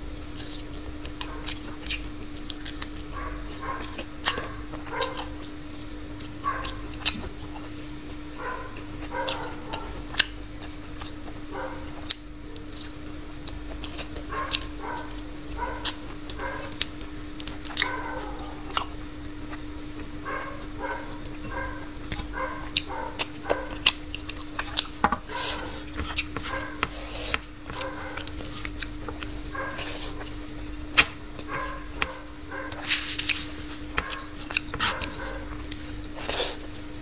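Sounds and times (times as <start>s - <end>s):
steady low hum: 0.0s - 37.0s
chewing and lip-smacking: 0.2s - 37.0s.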